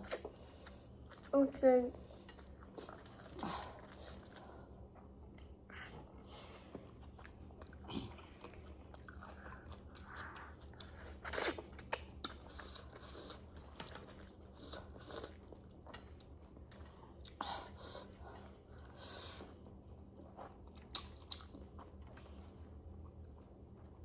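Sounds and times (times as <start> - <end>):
chewing and biting food: 2.2 - 5.6, 6.7 - 24.0.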